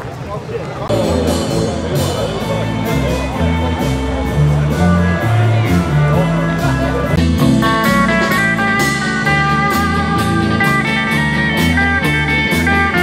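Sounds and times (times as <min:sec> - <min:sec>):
blues guitar music: 0:00.9 - 0:13.0
steady beat: 0:00.9 - 0:13.0
stepping bass line: 0:00.9 - 0:13.0.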